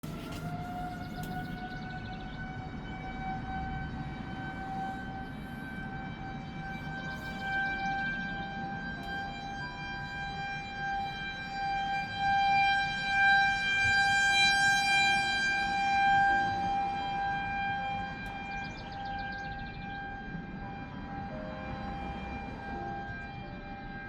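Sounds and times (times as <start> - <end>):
warning siren steady tone: 0.0 - 24.0.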